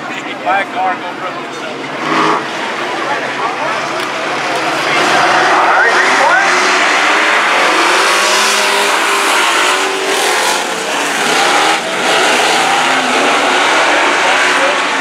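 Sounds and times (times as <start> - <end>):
race truck engines revving: 0.0 - 15.0.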